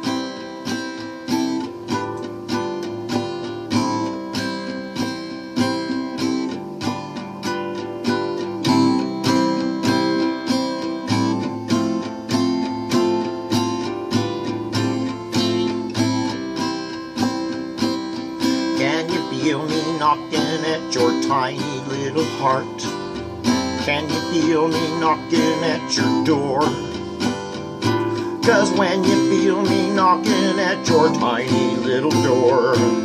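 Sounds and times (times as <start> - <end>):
acoustic guitar strumming chords: 0.0 - 33.0.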